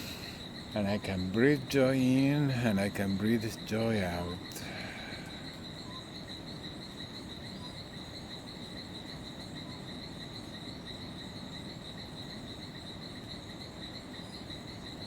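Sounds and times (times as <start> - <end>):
high-pitched insect trill: 0.0 - 15.0
low background hiss: 0.0 - 15.0.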